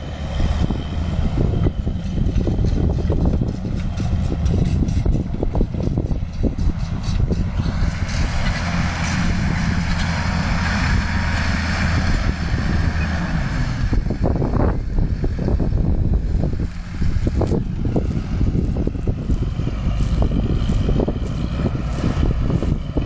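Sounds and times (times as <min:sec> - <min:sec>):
tractor diesel engine under load: 0:00.0 - 0:23.0
wind buffeting microphone: 0:00.0 - 0:23.0.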